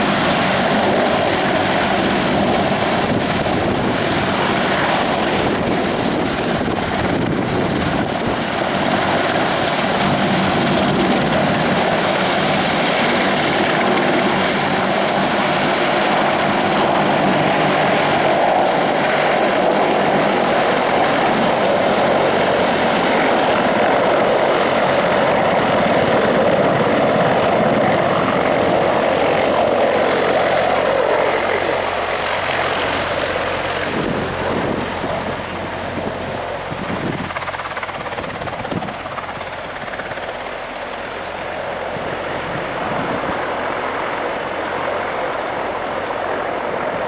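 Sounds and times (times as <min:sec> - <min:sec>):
helicopter engines and rotor: 0:00.0 - 0:47.0.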